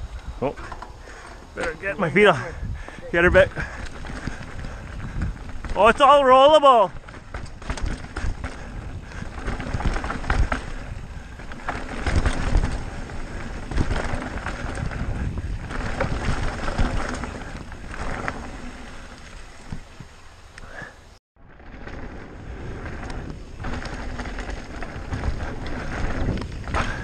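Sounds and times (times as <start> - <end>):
wind rushing over microphone: 0.0 - 20.2, 21.6 - 27.0
tyres rumbling on dirt trail: 0.0 - 27.0
bike knocking over rocks: 3.3 - 20.1, 21.6 - 27.0.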